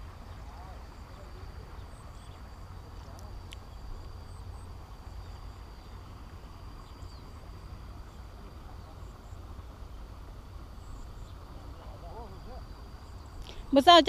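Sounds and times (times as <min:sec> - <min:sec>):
high insect drone: 0:00.0 - 0:14.0
low uneven rumble: 0:00.0 - 0:14.0.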